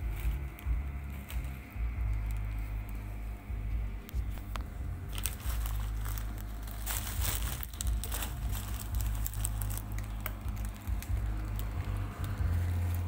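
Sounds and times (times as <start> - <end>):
plastic bag crinkling: 0.0 - 3.2, 4.1 - 13.0
band sealer humming: 0.0 - 13.0.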